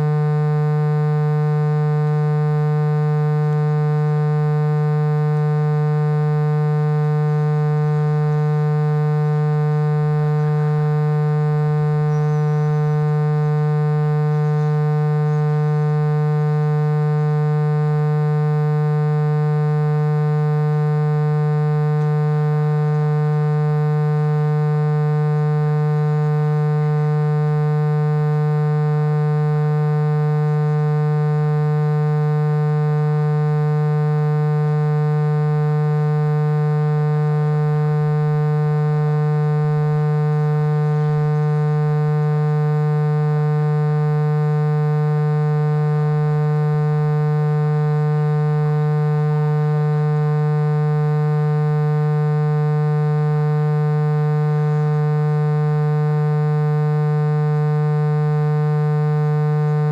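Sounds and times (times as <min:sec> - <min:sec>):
electrical mains hum: 0:00.0 - 0:57.4.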